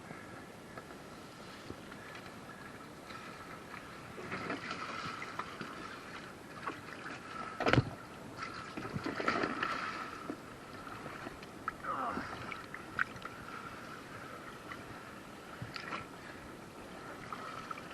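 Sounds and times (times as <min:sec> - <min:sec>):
water splashing around kayak: 0:01.0 - 0:17.9.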